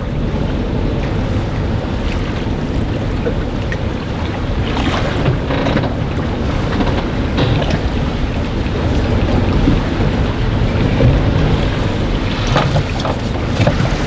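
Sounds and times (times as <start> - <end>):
strong wind on microphone: 0.0 - 14.0
water splashing: 1.4 - 14.0.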